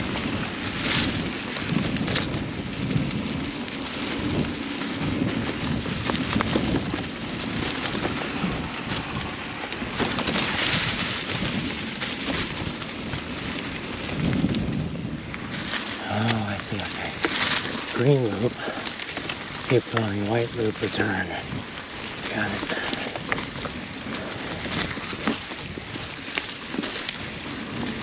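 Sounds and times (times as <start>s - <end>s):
bike clicks and rattles: 0.0s - 28.0s
wind buffeting microphone: 0.0s - 28.0s.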